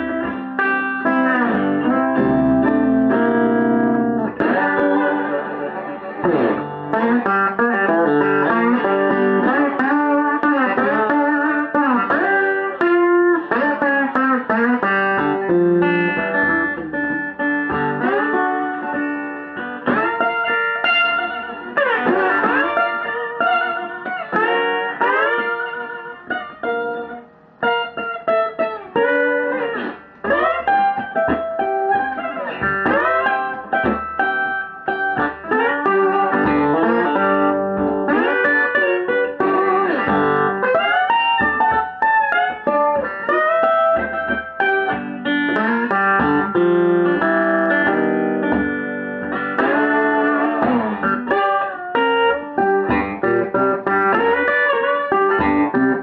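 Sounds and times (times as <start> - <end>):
electric guitar blues lead: 0.0 - 56.0.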